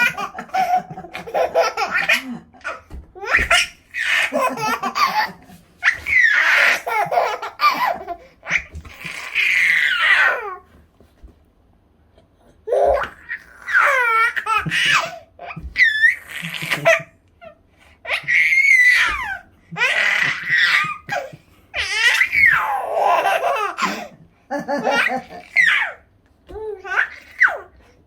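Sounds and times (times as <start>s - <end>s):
baby laughing: 0.0s - 10.7s, 12.6s - 27.8s.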